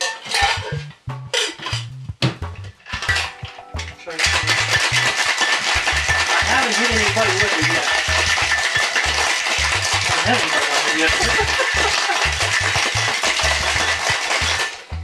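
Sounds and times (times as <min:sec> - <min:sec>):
background music with bass: 0:00.4 - 0:15.0
ice rattling in cocktail shaker: 0:02.8 - 0:15.0.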